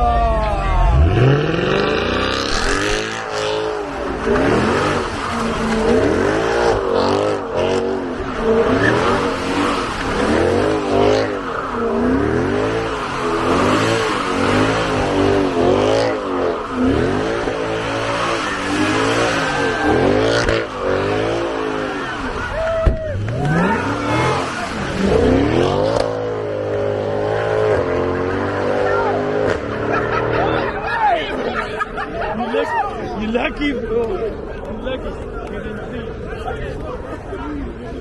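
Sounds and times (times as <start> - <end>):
car engine revving: 0.3 - 32.0.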